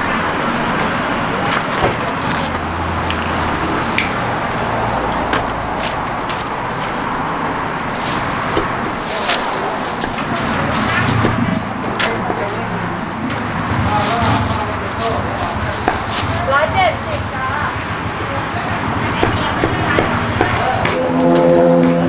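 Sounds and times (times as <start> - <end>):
street traffic hum: 0.0 - 22.0.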